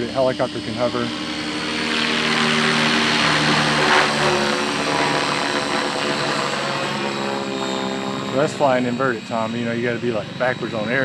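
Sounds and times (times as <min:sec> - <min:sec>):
helicopter motor whine: 0:00.0 - 0:11.0
rotor blades whirring: 0:00.0 - 0:11.0.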